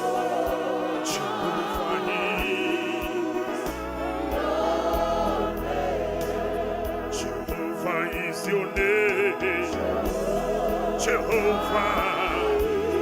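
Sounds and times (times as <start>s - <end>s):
group singing gospel song: 0.0s - 13.0s
instrumental accompaniment: 0.0s - 13.0s.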